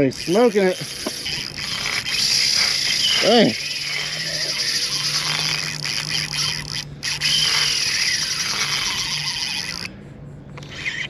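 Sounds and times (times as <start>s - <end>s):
fishing reel drag buzzing: 0.0s - 9.9s, 10.6s - 11.0s.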